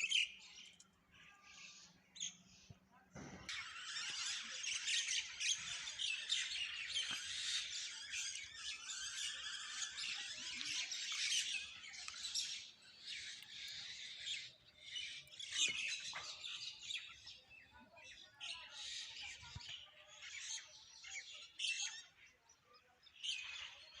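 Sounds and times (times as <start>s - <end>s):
chorus of small birds chirping: 0.0s - 24.0s.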